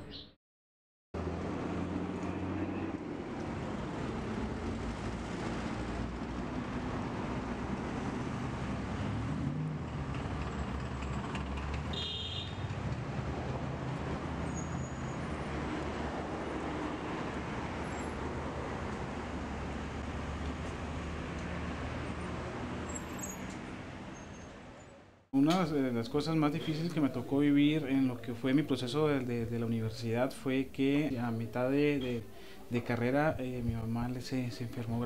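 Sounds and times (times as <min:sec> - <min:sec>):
traffic hum on busy road: 0:01.2 - 0:35.0.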